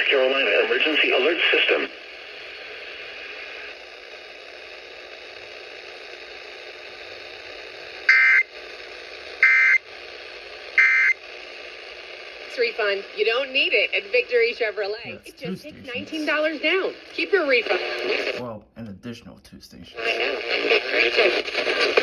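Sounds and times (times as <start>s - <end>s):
steady radio hiss: 0.0s - 22.0s.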